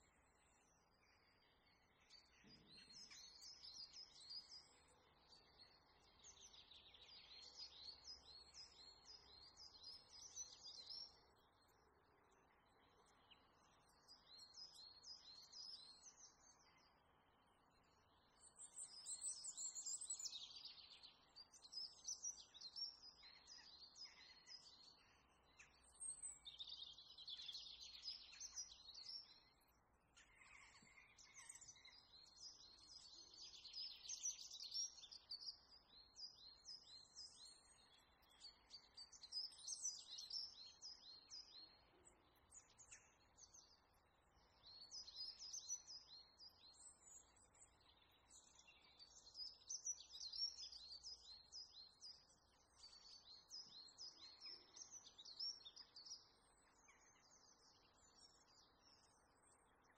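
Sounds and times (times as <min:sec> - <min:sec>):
low steady hiss: 0:00.0 - 0:59.9
songbirds chirping: 0:00.0 - 0:59.9.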